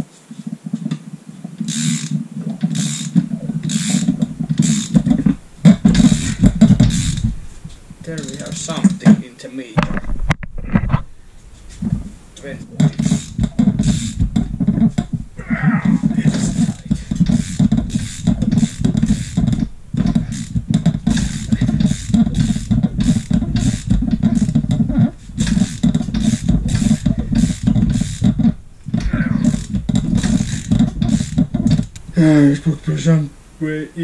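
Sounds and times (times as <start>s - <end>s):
engine turned over by hand chugging: 1.6s - 9.2s, 11.7s - 33.2s.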